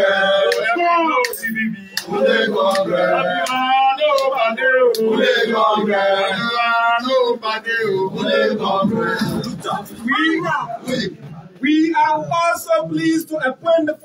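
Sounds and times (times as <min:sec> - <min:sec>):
man singing a chant: 0:00.0 - 0:14.0.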